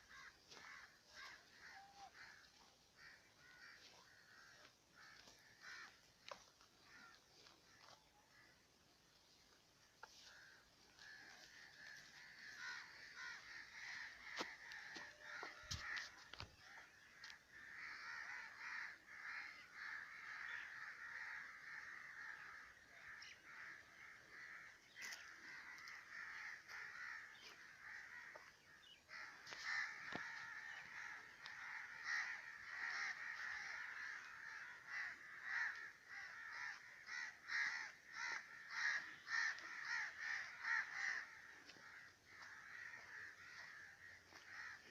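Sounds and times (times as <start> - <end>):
flock of birds chattering: 0.0 - 44.9.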